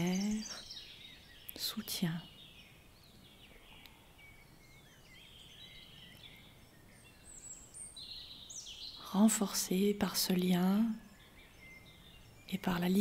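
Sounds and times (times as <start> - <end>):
birds chirping and whistling: 0.0 - 9.4, 10.3 - 13.0
outdoor ambient hiss: 0.0 - 13.0.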